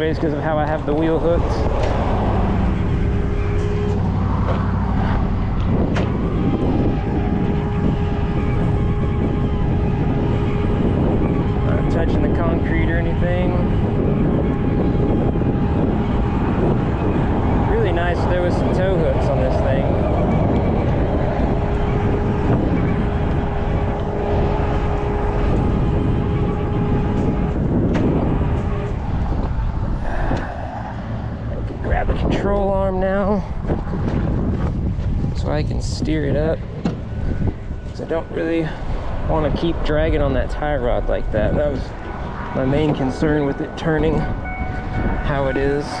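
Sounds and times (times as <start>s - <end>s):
steady winch whine: 0.0s - 46.0s
tow truck engine running: 0.0s - 46.0s.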